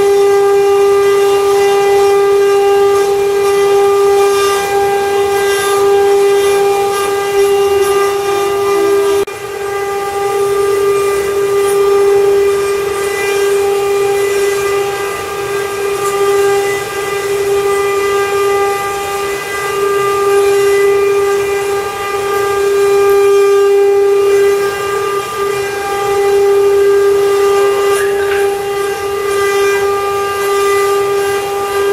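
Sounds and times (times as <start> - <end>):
router spindle whining: 0.0 - 31.9.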